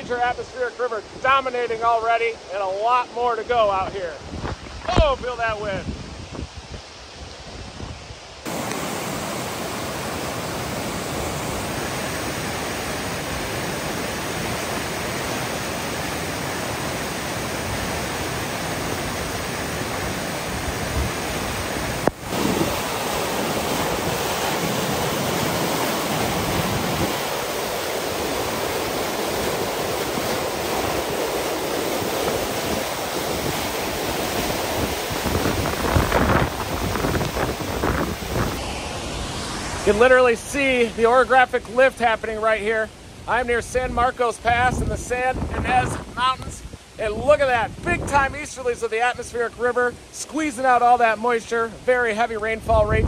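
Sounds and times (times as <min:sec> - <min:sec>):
floodwater rushing: 0:00.0 - 0:52.7.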